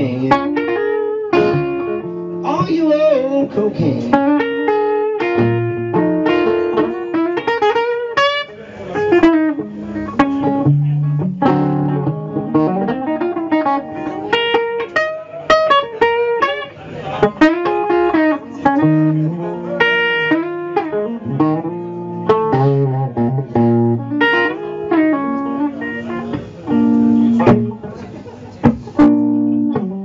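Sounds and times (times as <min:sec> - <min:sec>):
picked blues guitar notes: 0:00.0 - 0:30.0.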